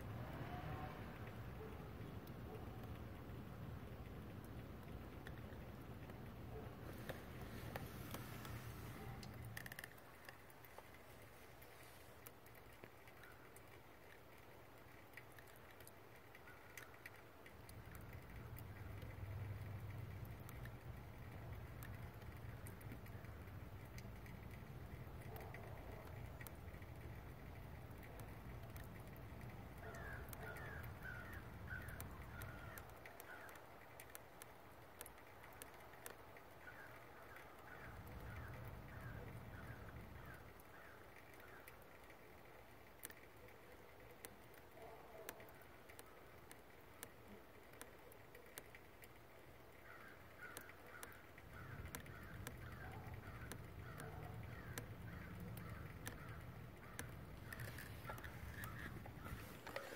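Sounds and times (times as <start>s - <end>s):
faint ticks: 0.0s - 59.9s.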